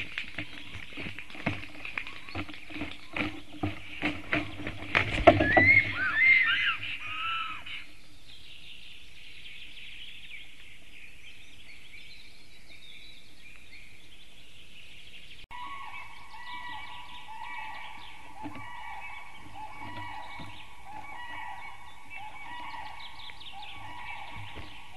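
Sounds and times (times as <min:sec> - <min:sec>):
birdsong with whistled notes: 0:00.0 - 0:24.9
small birds chorus: 0:00.0 - 0:24.9
loud wavering whistled bird calls: 0:03.9 - 0:24.9.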